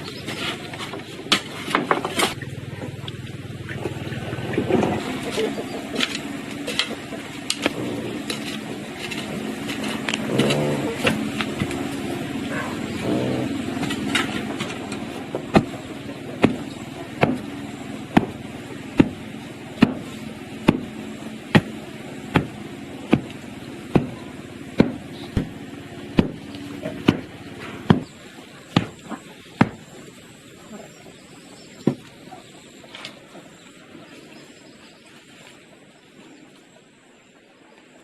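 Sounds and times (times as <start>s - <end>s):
background rumble: 0.0s - 38.0s.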